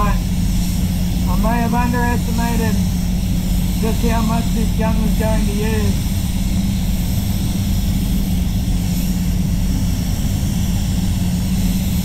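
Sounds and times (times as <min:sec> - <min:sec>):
spray booth ventilation drone: 0:00.0 - 0:12.0
paint spray gun hissing: 0:00.1 - 0:12.0.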